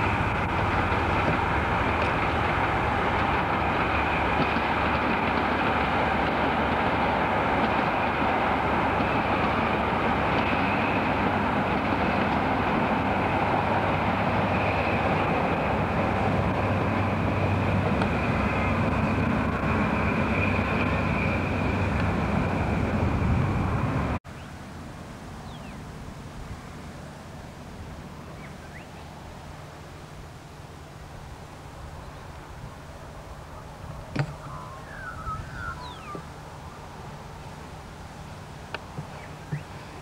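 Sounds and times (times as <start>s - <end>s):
diesel train rumbling past: 0.0s - 40.0s
outdoor background: 0.0s - 40.0s.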